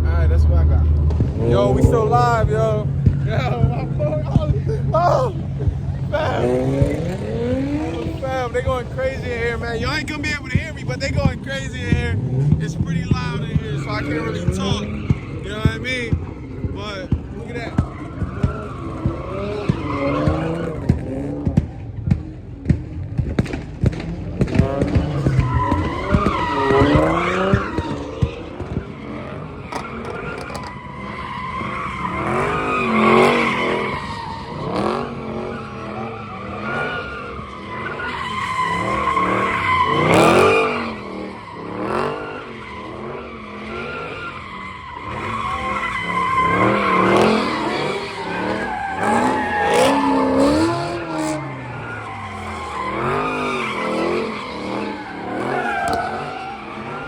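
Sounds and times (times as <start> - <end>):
car engines revving: 0.0 - 57.0
car tyres squealing: 0.0 - 57.0.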